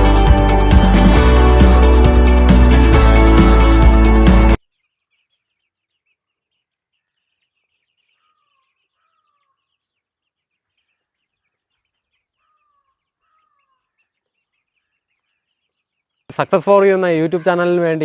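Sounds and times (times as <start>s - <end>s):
chicks cheeping: 0.0s - 18.0s
falling calls: 0.0s - 18.0s.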